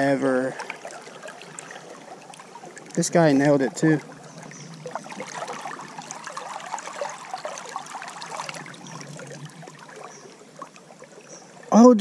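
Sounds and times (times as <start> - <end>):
river water rushing: 0.0 - 11.7.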